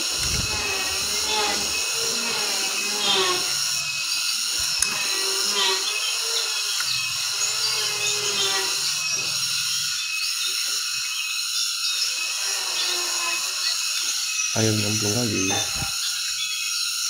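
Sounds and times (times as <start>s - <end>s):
high-pitched buzzing drone: 0.0s - 17.0s.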